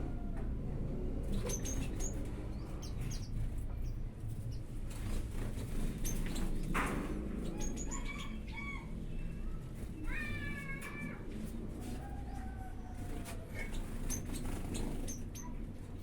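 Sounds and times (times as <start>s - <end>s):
aviary birds calling: 0.0s - 16.0s.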